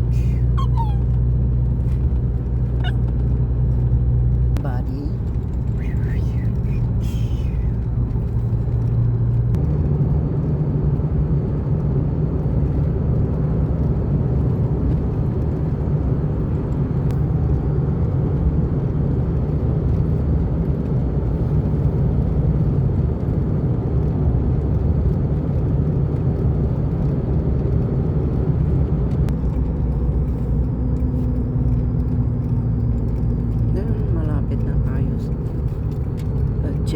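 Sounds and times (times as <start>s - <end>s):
engine and road noise: 0.0s - 36.9s.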